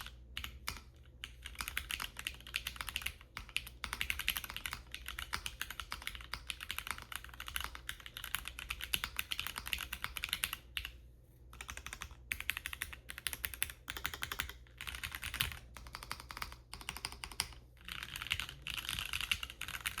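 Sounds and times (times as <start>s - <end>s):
typing on mechanical keyboard: 0.0s - 10.9s, 11.6s - 20.0s.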